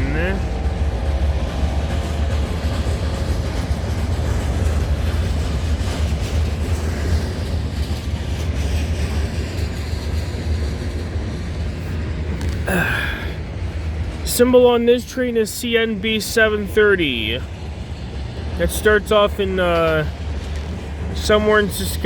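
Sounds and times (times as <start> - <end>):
freight train rumbling: 0.0 - 22.0
wheels clacking over track: 0.0 - 22.0.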